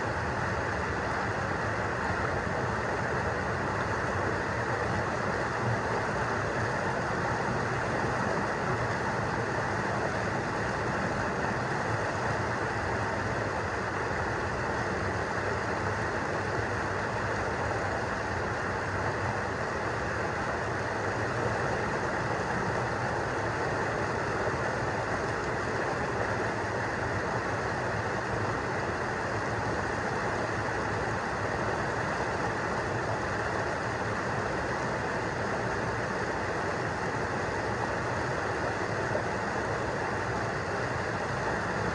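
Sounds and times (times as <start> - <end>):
small waterfall churning: 0.0 - 41.9
stream water rushing over rocks: 0.0 - 41.9.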